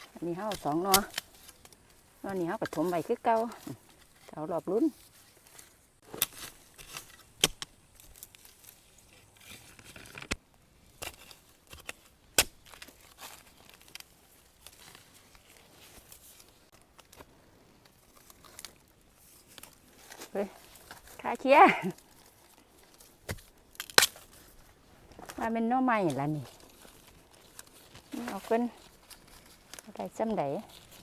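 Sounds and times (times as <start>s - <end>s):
dry leaves rustling: 0.0s - 10.2s, 10.8s - 31.0s.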